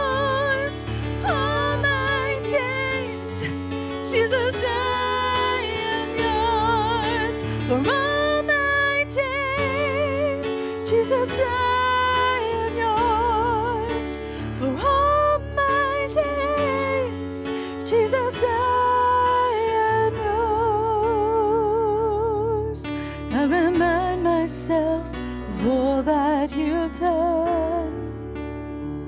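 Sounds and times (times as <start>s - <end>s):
women singing worship song: 0.0s - 27.9s.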